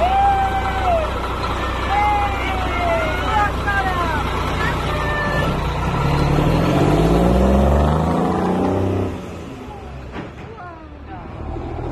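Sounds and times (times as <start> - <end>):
lorry diesel engine accelerating: 0.0 - 11.9.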